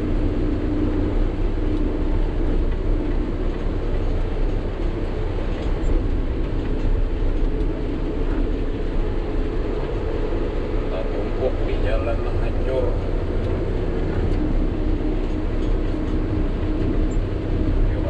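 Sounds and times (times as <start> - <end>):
road noise: 0.0 - 18.0
truck engine drone: 0.0 - 18.0.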